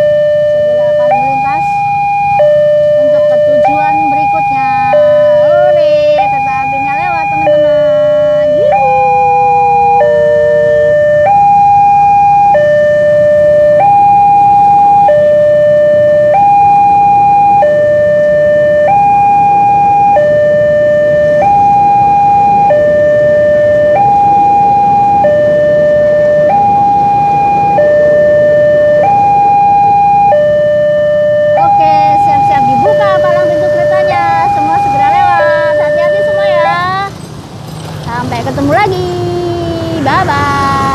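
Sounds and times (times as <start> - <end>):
two-tone crossing alarm: 0.0 - 37.3, 38.1 - 40.9.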